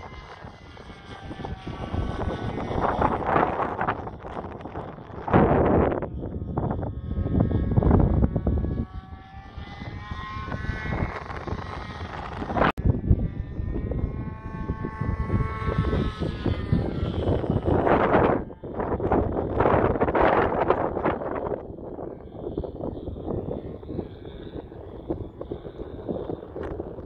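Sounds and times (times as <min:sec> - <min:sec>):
model airplane engine flying by: 0:00.0 - 0:27.0
wind buffeting microphone: 0:00.0 - 0:27.0.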